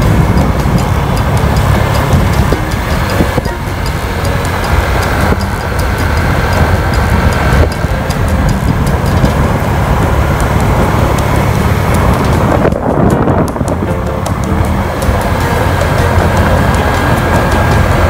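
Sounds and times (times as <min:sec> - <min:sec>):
light rapid rattles: 0:00.0 - 0:18.0
vehicle engine and road noise: 0:00.0 - 0:18.0.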